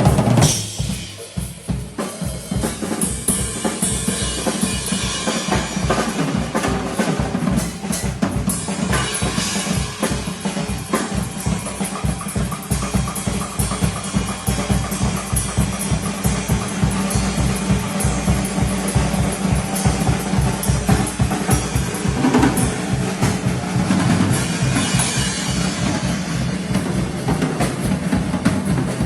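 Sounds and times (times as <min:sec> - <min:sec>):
drum kit playing fast beat: 0:00.0 - 0:29.0.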